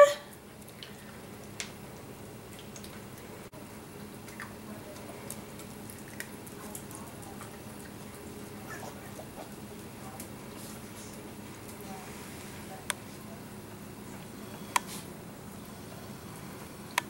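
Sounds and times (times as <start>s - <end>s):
puppies licking and chewing: 0.3s - 17.0s.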